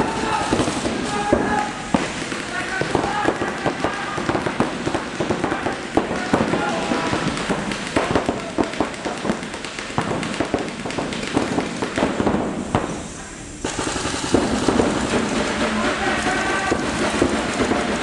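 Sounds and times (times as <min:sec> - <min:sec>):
paintball markers firing: 0:00.3 - 0:12.9, 0:13.6 - 0:18.0.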